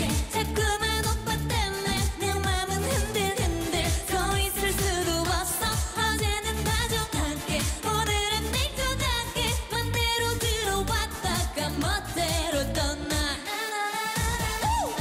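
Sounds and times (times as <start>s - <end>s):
bass-heavy beat: 0.0s - 13.4s, 14.2s - 15.0s
woman singing: 0.0s - 15.0s.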